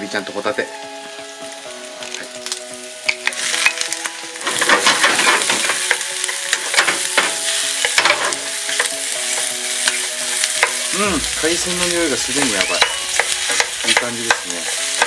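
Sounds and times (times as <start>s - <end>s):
seafood sizzling in oil: 0.0s - 15.0s.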